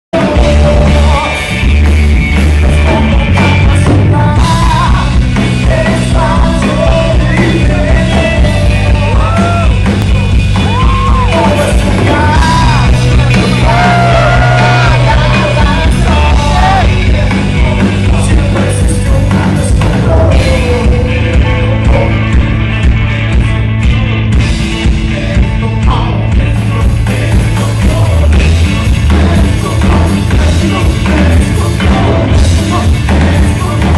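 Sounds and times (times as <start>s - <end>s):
person singing into a microphone: 0.2s - 1.8s, 2.6s - 33.9s
live rock band playing: 0.2s - 33.9s.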